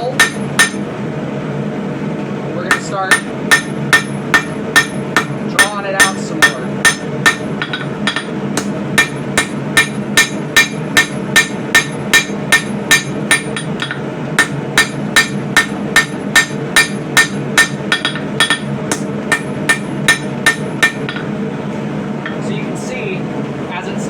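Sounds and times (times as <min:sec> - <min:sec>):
hammer striking steel on anvil: 0:00.0 - 0:00.9, 0:02.7 - 0:21.3, 0:22.2 - 0:22.5.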